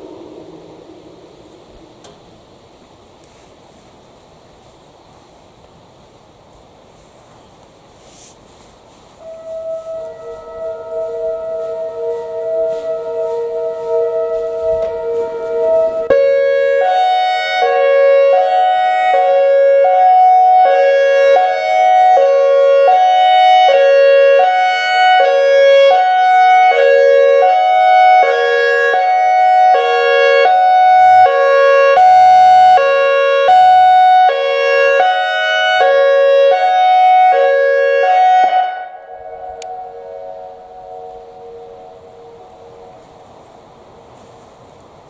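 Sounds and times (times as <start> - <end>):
warning siren hi-lo tone: 0.0 - 3.0, 9.2 - 43.2.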